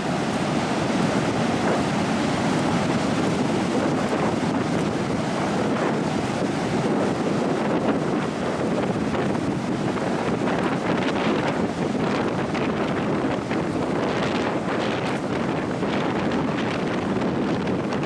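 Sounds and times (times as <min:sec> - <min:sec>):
ocean surf: 0:00.0 - 0:18.0
wind buffeting the microphone: 0:00.0 - 0:18.0.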